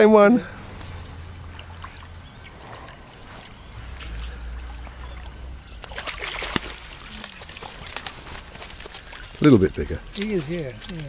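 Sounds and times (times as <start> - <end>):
low steady rumble: 0.4 - 10.2
bird chirps: 0.4 - 10.9.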